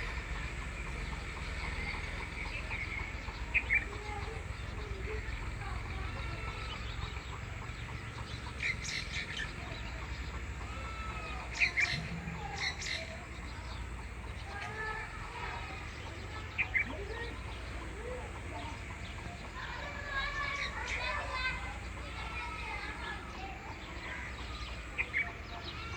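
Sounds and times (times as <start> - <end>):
birds chirping and calling: 0.0 - 25.9.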